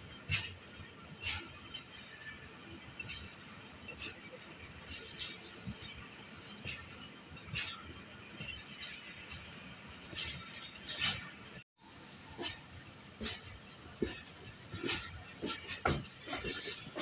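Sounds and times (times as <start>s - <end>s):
train coach running noise: 0.0s - 17.0s.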